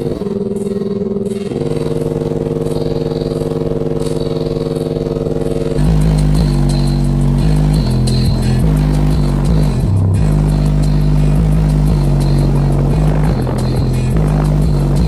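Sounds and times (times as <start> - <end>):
heavy deep bass line: 0.0 - 15.0.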